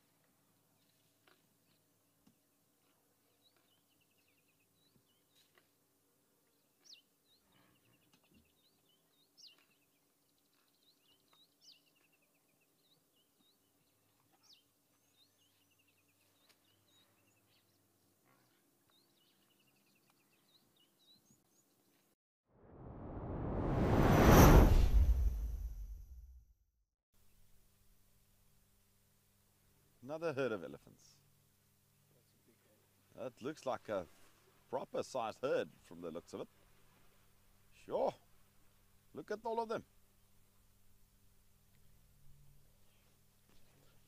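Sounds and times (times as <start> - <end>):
faint birdsong: 0.0 - 22.1, 29.7 - 44.0.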